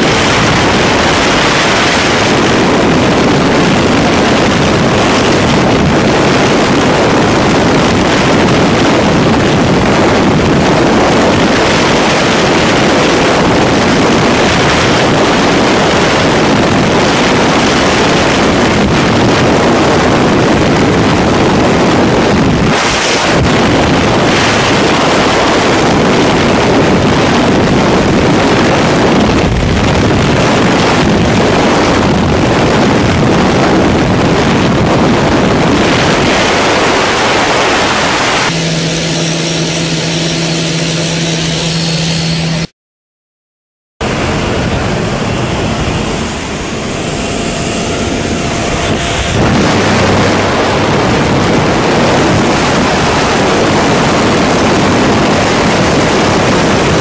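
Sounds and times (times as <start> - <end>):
light aircraft engine humming: 0.0 - 42.7, 44.0 - 57.0
wind rushing over microphone: 0.0 - 42.7, 44.0 - 57.0.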